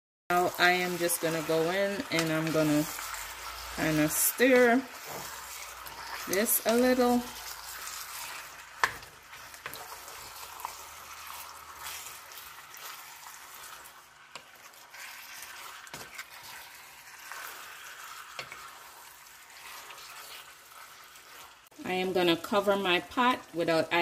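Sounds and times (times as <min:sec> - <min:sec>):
chicken sizzling in hot oil: 0:00.3 - 0:24.0.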